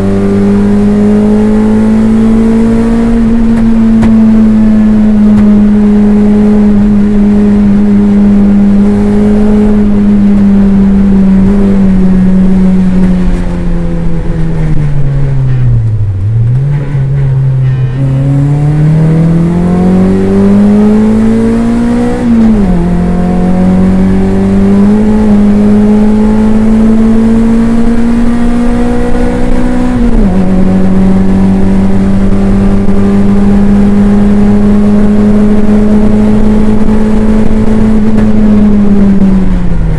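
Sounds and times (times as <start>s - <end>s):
race car engine from inside: 0.0s - 39.9s.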